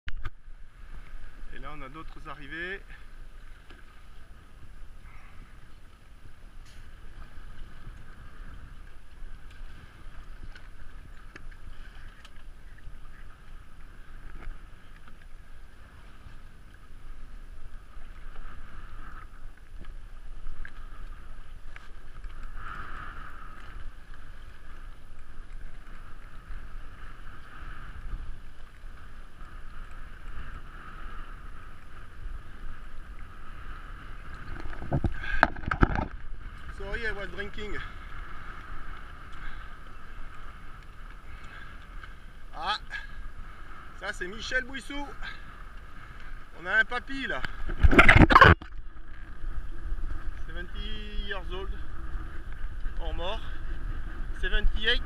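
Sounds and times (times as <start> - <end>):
water rushing along hulls: 0.1 - 55.0
wind buffeting microphone: 0.1 - 55.0.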